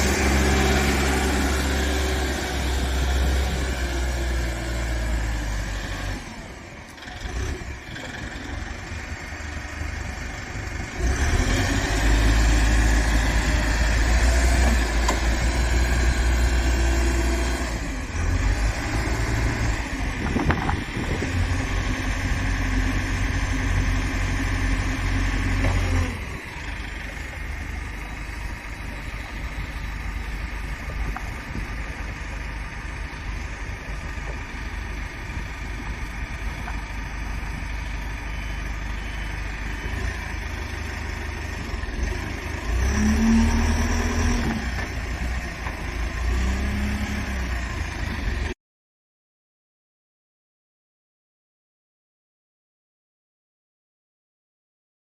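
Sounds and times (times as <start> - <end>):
forklift diesel engine running: 0.0 - 48.6.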